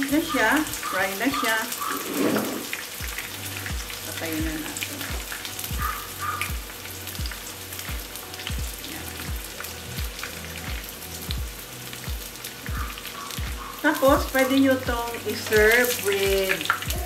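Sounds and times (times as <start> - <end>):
tofu sizzling in oil: 0.0 - 17.0.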